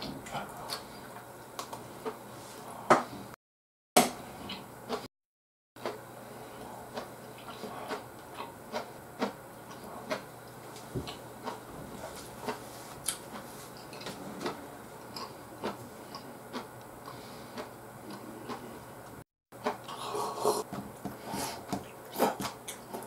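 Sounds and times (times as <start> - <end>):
low steady hum: 0.0 - 3.4, 5.8 - 23.0.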